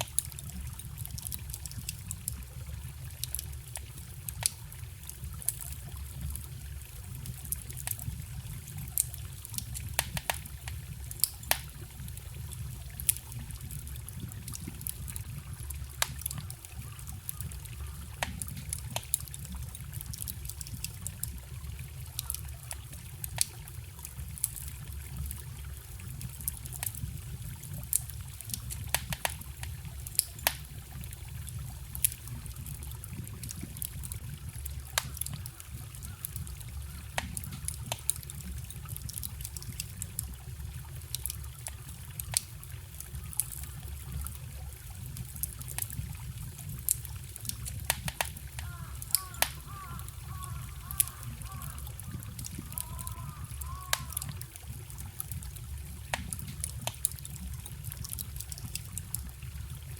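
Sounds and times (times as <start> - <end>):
campfire crackling and popping: 0.0 - 59.9
forest stream trickling: 0.0 - 59.9.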